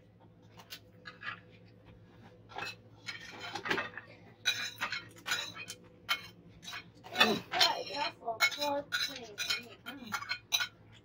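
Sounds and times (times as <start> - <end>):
cutlery scraping and clinking on plates: 0.4 - 11.0.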